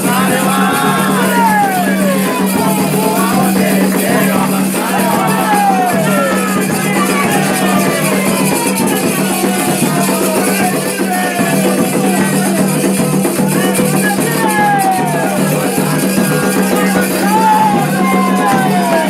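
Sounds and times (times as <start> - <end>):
hand drumming: 0.0 - 19.0
shaken rattles: 0.0 - 19.0
voices singing: 0.0 - 19.0.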